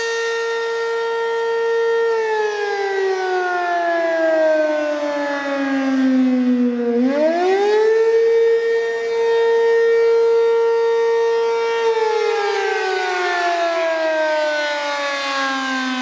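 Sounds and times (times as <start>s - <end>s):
fire siren wailing: 0.0s - 16.0s.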